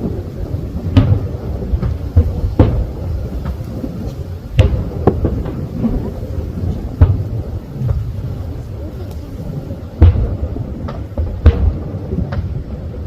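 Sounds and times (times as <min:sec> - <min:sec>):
fireworks booming: 0:00.0 - 0:13.0
low rumble: 0:00.0 - 0:13.0.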